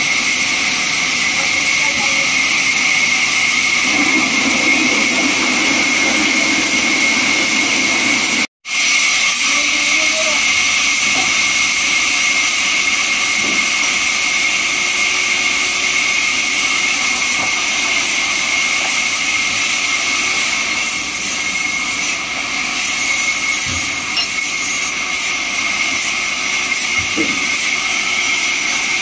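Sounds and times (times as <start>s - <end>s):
band saw cutting log: 0.0s - 29.0s.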